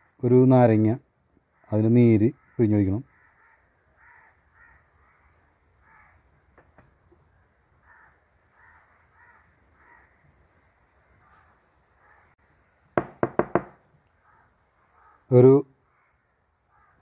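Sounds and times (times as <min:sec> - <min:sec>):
faint bird calls: 0:01.4 - 0:06.6, 0:07.2 - 0:12.4, 0:13.0 - 0:17.0.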